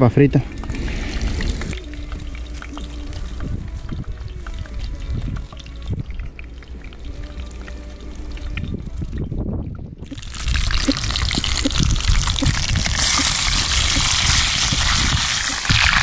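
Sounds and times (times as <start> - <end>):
fish sizzling in hot oil: 0.6 - 8.6, 10.1 - 16.0.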